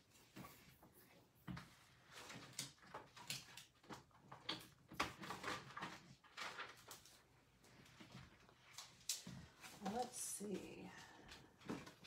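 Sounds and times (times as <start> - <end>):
paper rustling and tapping: 0.0 - 12.0.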